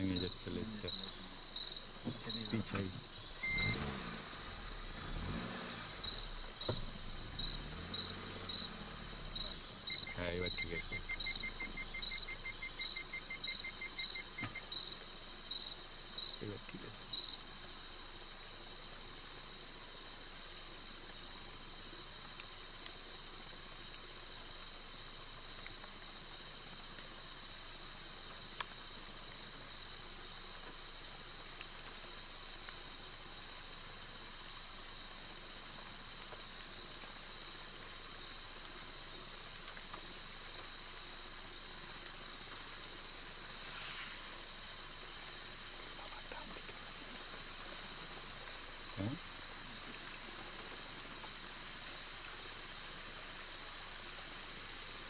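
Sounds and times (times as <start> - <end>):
crickets trilling: 0.0 - 55.0
faint hiss: 0.0 - 55.0.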